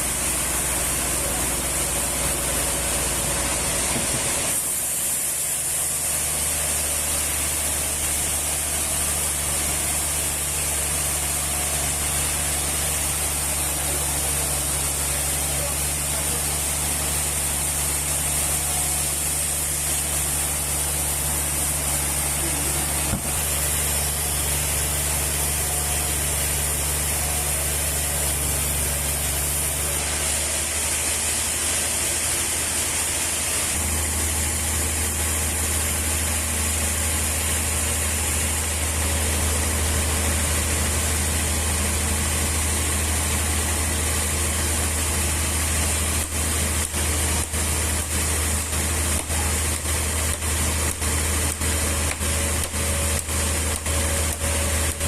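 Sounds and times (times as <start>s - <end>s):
sawmill motor hum: 0.0s - 55.0s.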